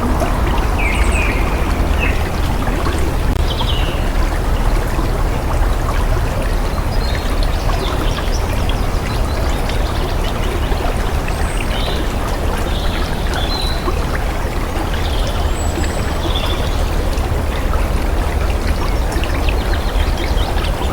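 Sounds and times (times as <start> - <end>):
stream water flowing: 0.0 - 20.9.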